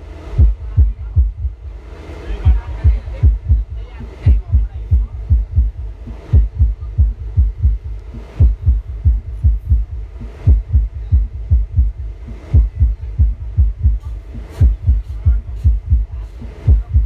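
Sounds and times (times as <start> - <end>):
deep subwoofer bass thuds: 0.0 - 17.0.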